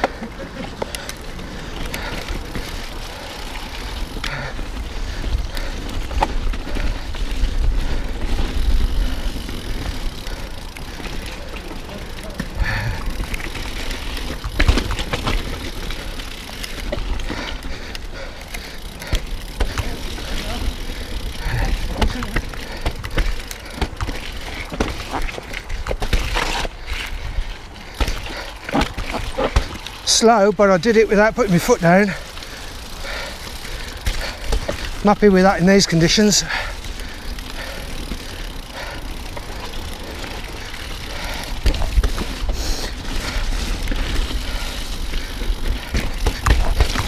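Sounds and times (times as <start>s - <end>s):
bike clicks and rattles: 0.0s - 47.0s
bike tyre noise: 0.0s - 47.0s.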